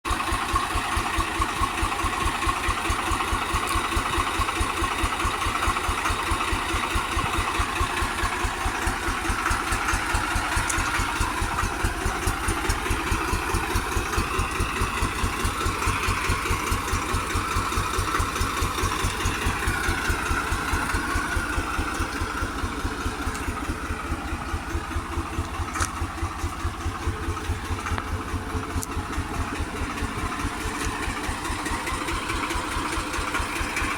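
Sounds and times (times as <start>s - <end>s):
tractor engine idling: 0.1s - 33.9s.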